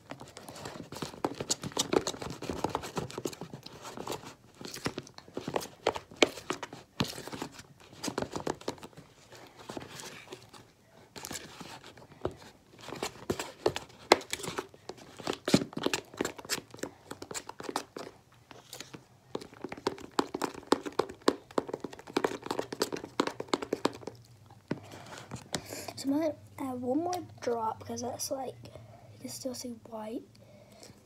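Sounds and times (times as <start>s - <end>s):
slime squishing as stirred: 0.1s - 25.7s.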